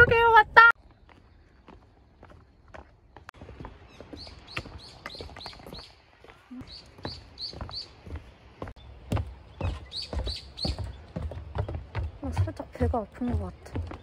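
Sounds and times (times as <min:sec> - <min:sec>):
footsteps on wooden boardwalk: 0:00.0 - 0:14.0
small birds chirping: 0:00.1 - 0:14.0.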